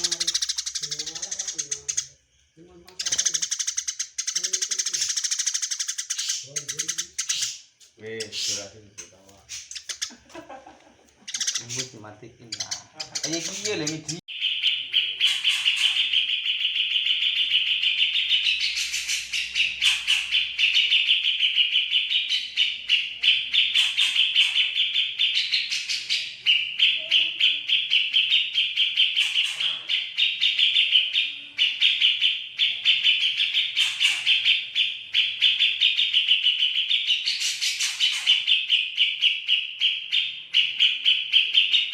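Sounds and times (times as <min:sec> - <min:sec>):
songbird chattering: 0:00.0 - 0:41.9.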